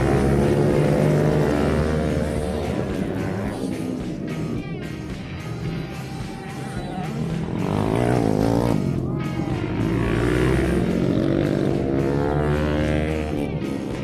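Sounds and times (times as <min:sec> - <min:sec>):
background music: 0:00.0 - 0:14.0
motorcycle engines revving: 0:00.0 - 0:14.0.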